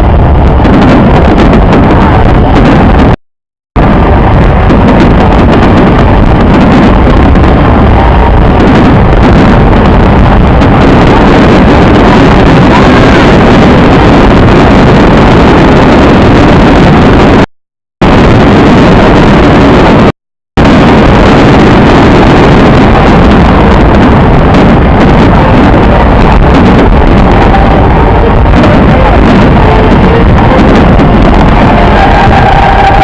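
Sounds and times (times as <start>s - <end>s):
fireworks barrage rumble: 0.0s - 3.2s, 3.8s - 33.0s.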